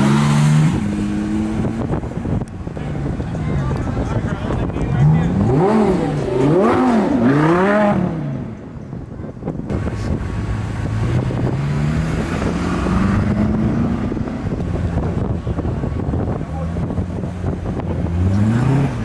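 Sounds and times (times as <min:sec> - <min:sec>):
car engine revving: 0:00.0 - 0:08.6, 0:09.7 - 0:19.0
car accelerating gently: 0:00.0 - 0:19.0.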